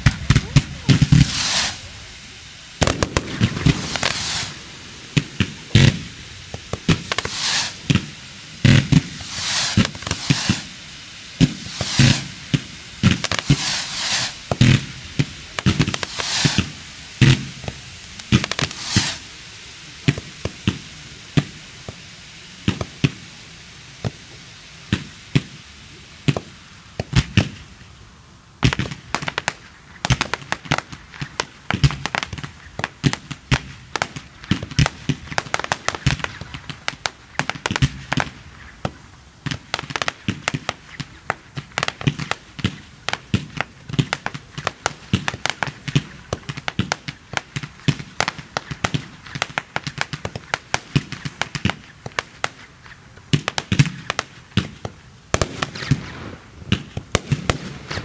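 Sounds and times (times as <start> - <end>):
firework batteries firing: 0.0 - 58.0.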